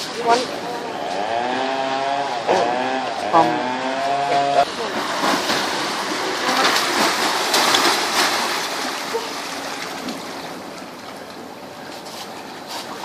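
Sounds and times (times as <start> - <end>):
water splashing and churning: 0.0 - 13.0.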